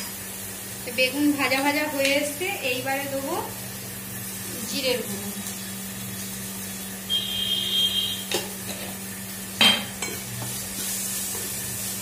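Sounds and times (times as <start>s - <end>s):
eggplant frying: 0.0s - 12.0s.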